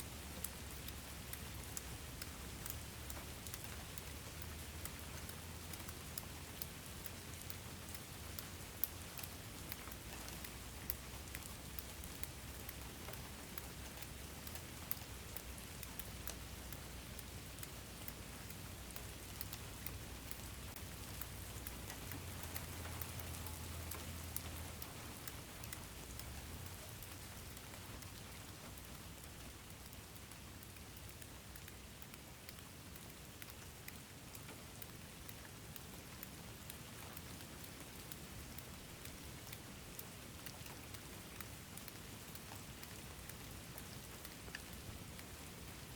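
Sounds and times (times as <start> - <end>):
steady rain pattering: 0.0 - 45.9.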